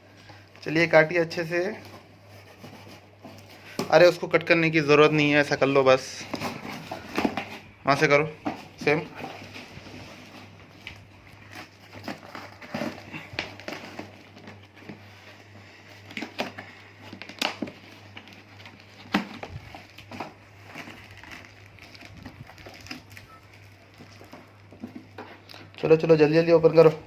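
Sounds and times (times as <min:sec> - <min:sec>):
packaging crinkling: 0:00.1 - 0:27.0.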